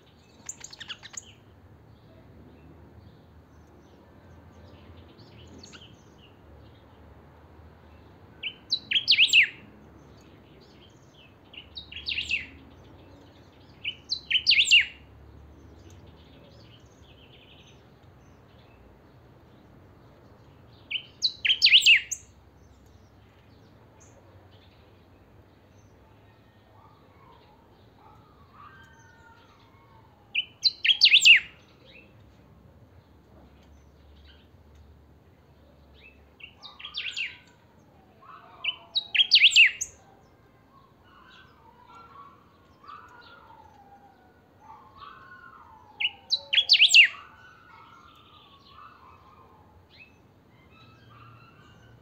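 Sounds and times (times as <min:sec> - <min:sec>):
songbird singing: 0:00.0 - 0:07.1, 0:07.7 - 0:52.0.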